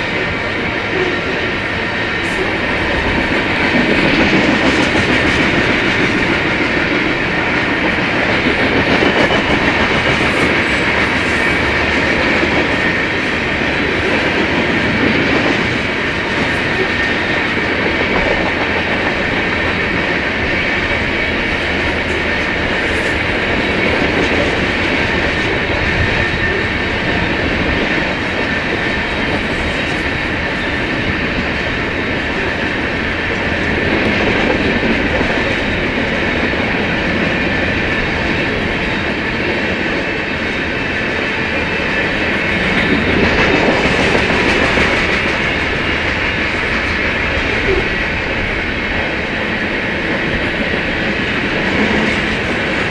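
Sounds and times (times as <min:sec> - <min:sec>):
freight train wheels rolling: 0:00.0 - 0:52.9.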